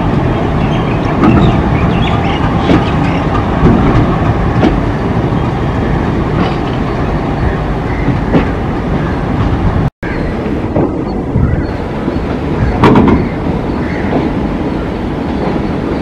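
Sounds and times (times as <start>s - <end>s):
train rumbling past: 0.0s - 16.0s
wheels clicking over rail joints: 0.0s - 16.0s.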